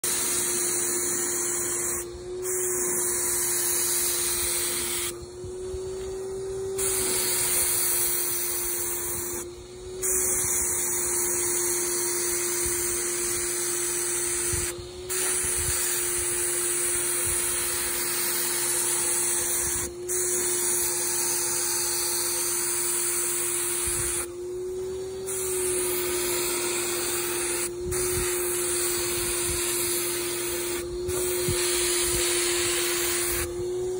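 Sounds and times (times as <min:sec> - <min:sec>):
air hissing through spray gun: 0:00.0 - 0:33.9
sprayer turbine whining: 0:00.0 - 0:33.9.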